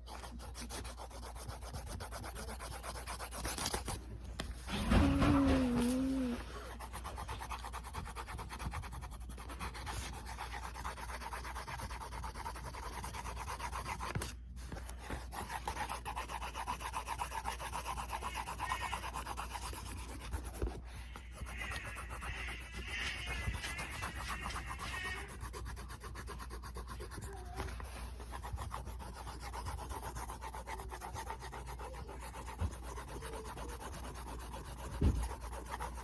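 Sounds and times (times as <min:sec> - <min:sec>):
pencil rubbing on paper: 0:00.0 - 0:36.0.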